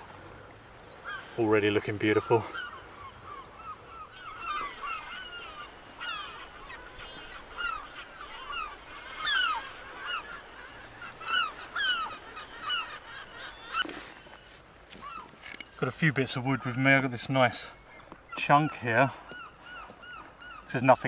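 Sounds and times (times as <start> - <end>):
gulls calling: 0.0 - 21.0.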